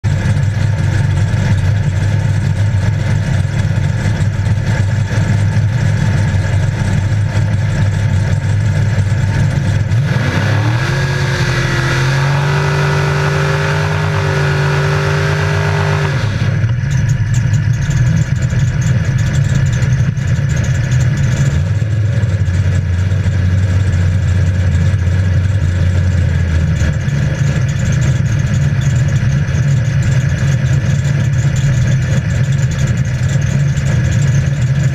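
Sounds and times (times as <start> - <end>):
engine idling and revving: 0.0 - 34.9.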